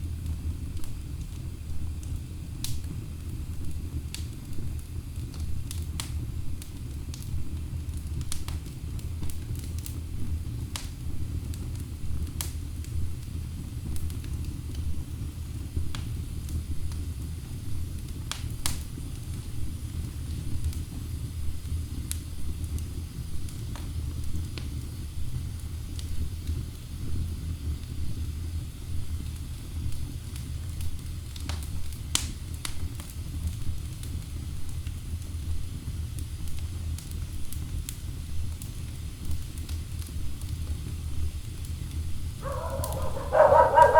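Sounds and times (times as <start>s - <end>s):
logs burning in fireplace: 0.0s - 35.7s, 36.5s - 43.9s
crackles and pops of fire: 0.0s - 43.9s.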